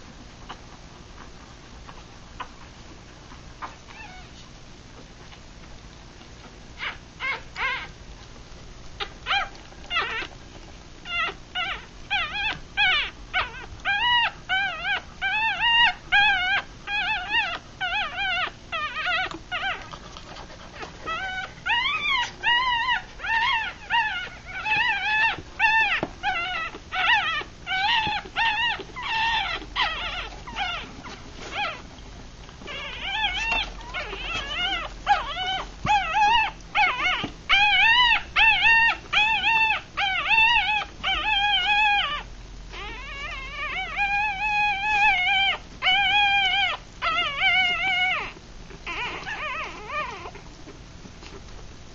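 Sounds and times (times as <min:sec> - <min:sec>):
puppies crying: 0:03.6 - 0:04.4, 0:06.4 - 0:08.0, 0:08.9 - 0:50.6.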